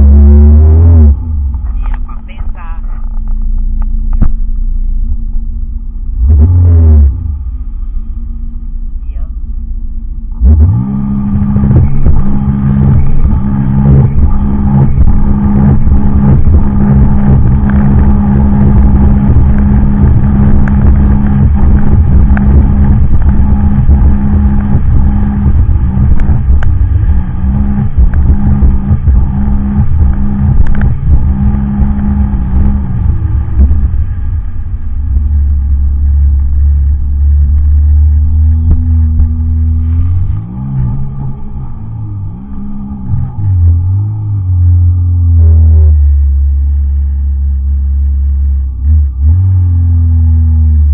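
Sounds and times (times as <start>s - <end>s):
watercraft engine droning: 0.0s - 50.9s.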